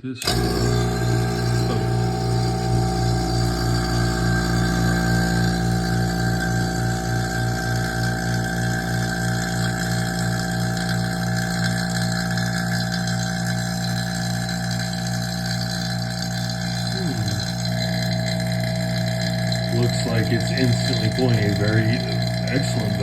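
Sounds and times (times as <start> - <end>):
vacuum pump humming: 0.0 - 23.0.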